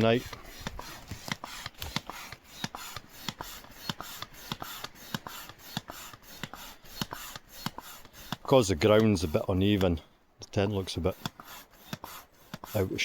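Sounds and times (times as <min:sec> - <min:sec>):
manual pump clicking and rubbing: 0:00.0 - 0:13.0.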